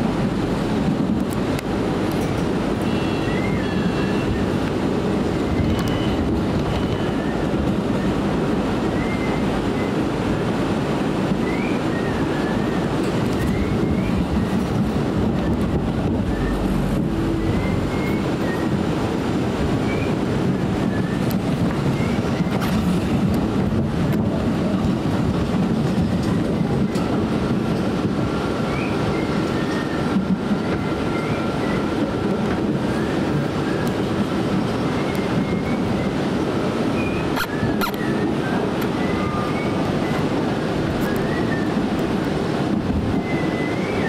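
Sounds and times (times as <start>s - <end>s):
subway wheels rumbling: 0.0s - 44.0s.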